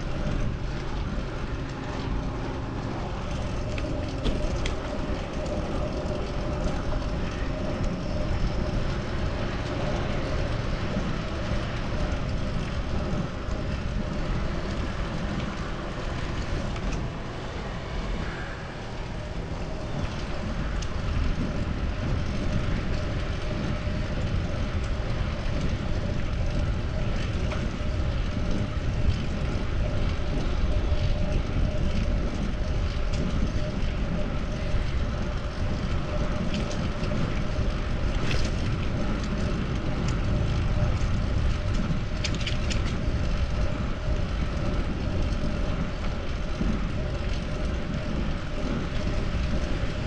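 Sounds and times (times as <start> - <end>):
road rumble: 0.0 - 50.0
wind rush: 0.0 - 50.0.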